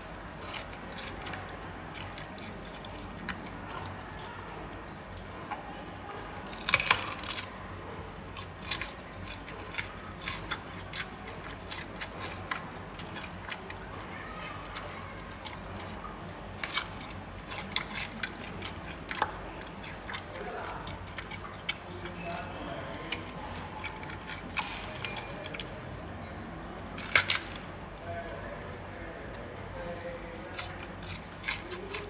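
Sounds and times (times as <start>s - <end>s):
panda chewing bamboo crunching: 0.0s - 5.3s, 6.4s - 27.7s, 30.4s - 32.0s.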